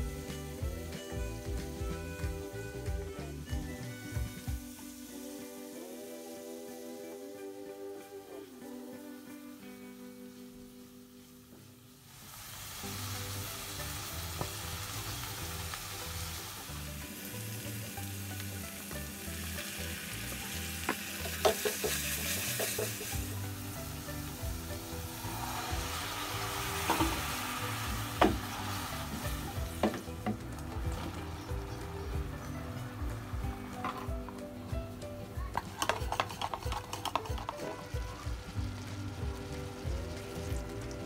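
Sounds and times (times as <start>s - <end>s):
food sizzling in hot oil: 0.0s - 41.0s.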